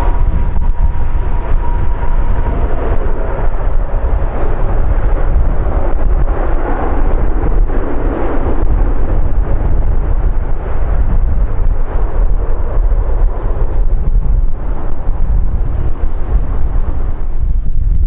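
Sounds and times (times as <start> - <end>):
jet engine rumble: 0.0 - 18.0
wind buffeting microphone: 0.0 - 18.0.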